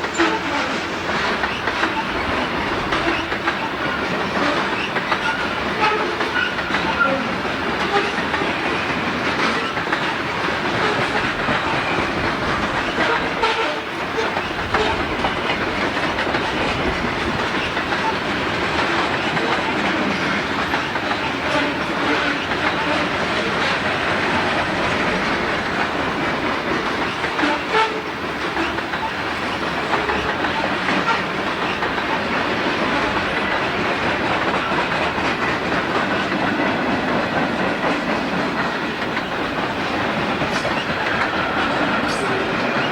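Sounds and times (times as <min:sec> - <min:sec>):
freight train wheels clattering: 0:00.0 - 0:42.9
train cars rattling: 0:00.0 - 0:42.9.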